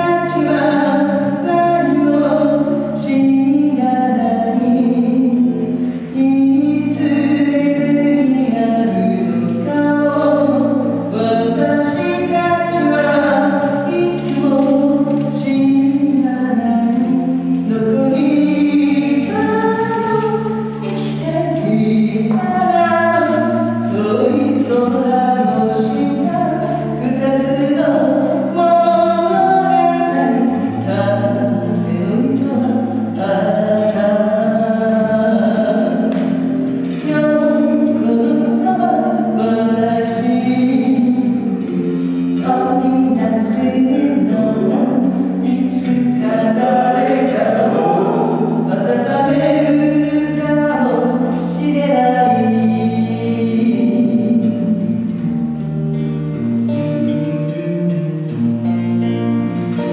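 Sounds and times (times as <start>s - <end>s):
electric bass: 0.0s - 59.9s
person singing: 0.0s - 59.9s
strummed acoustic guitar: 0.0s - 59.9s.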